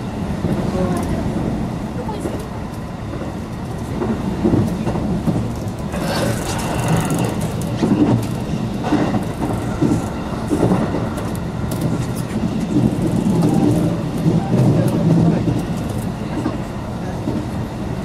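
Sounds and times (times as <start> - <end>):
train wheels rumbling on rail: 0.0 - 18.0
train knocks: 3.1 - 17.6.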